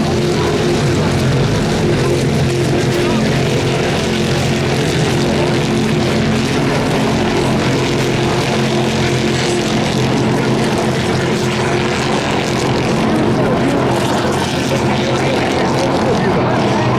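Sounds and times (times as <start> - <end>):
race car engines at high revs: 0.0 - 16.9.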